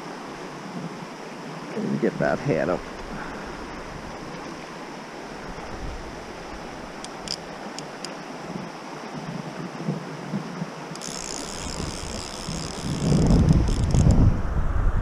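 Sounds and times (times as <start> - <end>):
river running over stones: 0.0 - 14.2.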